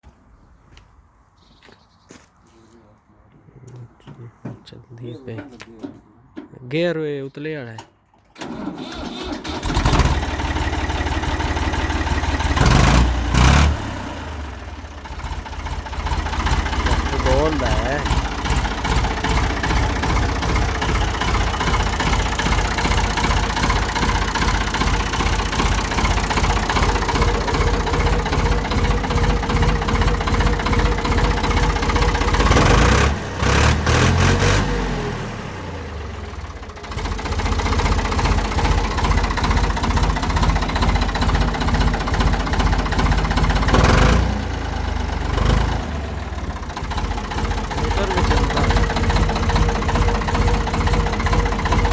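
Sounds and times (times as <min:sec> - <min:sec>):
tractor engine running: 0:07.7 - 0:51.9.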